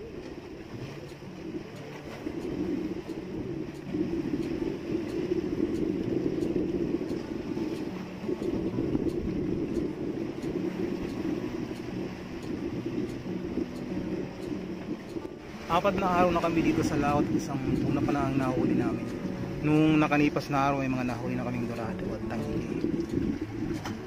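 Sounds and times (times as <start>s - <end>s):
boat engine running: 0.0s - 24.0s
sea noise: 0.0s - 24.0s
wind: 0.0s - 24.0s.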